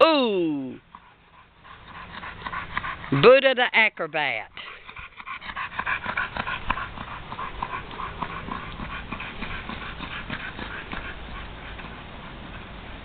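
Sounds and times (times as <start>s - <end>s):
dog panting: 0.7s - 13.0s.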